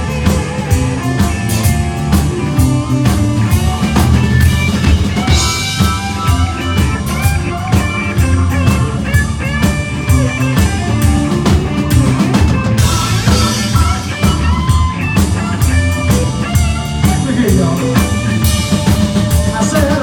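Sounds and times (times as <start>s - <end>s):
bass guitar: 0.0s - 20.0s
drum kit: 0.0s - 20.0s
guitar playing bent lead notes: 0.0s - 20.0s.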